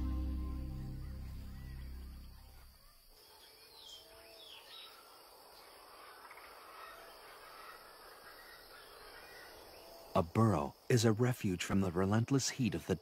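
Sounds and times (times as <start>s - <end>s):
soft outdoor hiss: 0.0s - 13.0s.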